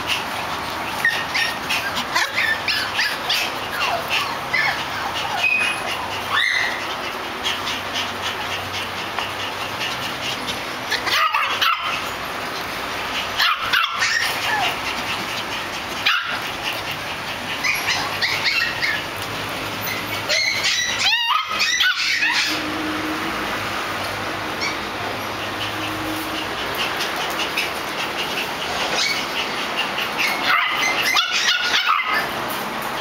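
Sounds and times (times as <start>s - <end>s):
dogs barking and yipping: 0.0s - 33.0s.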